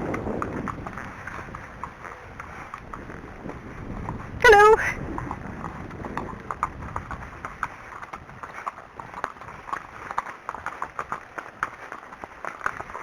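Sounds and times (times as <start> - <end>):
horse hooves on hard road: 0.0 - 13.0.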